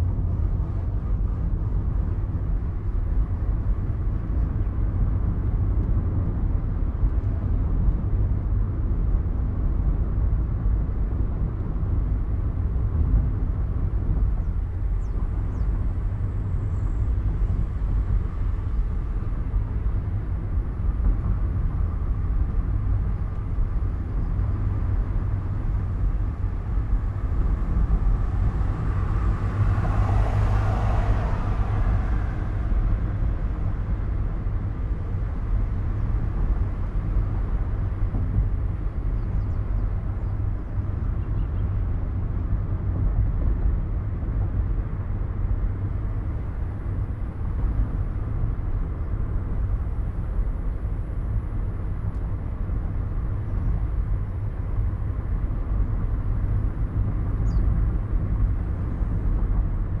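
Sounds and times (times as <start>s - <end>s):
car engine rumble: 0.0s - 60.0s
road noise: 0.0s - 60.0s.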